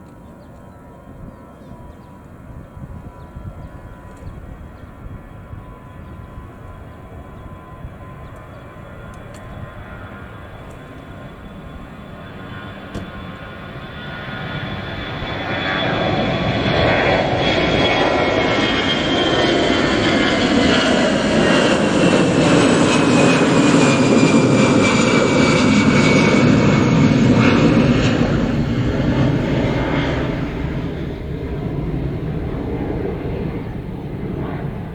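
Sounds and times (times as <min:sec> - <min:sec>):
jet engine whine: 0:00.0 - 0:34.9
jet airliner taking off: 0:00.2 - 0:34.9.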